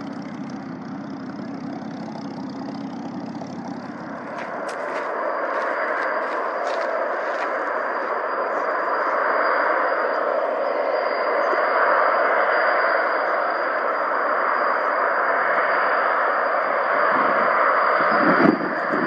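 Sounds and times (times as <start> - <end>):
aircraft engine running: 0.0 - 19.0
high engine whine: 0.0 - 19.0.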